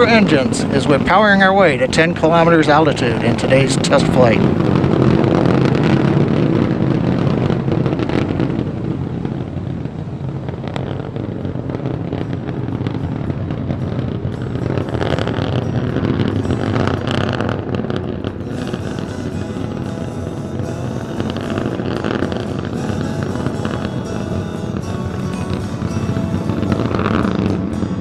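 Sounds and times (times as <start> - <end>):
rocket engines rumbling: 0.0 - 28.0.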